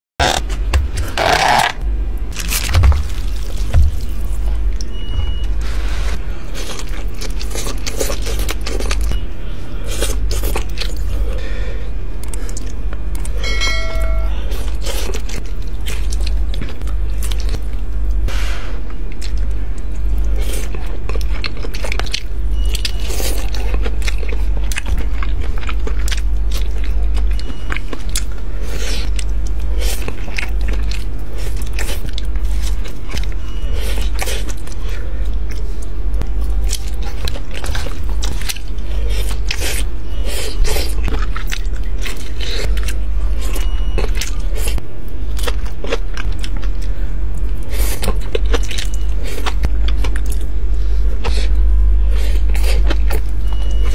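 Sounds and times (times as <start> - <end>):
biting and chewing: 0.2 - 5.4, 6.5 - 9.2, 9.8 - 13.6, 14.4 - 18.2, 19.1 - 53.9
low hum: 0.2 - 53.9.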